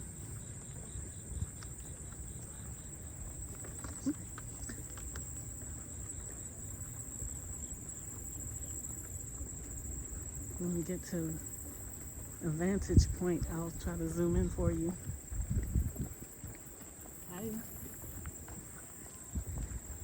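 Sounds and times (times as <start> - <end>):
footsteps on trail: 0.0 - 20.0
high-pitched insect chorus: 0.0 - 20.0.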